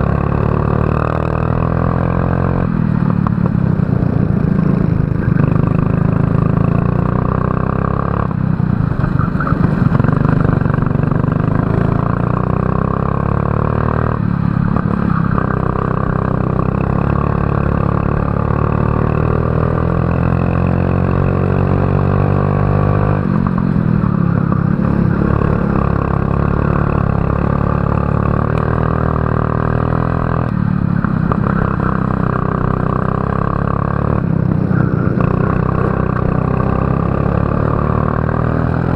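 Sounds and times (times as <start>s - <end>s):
kart engine racing: 0.0s - 38.9s.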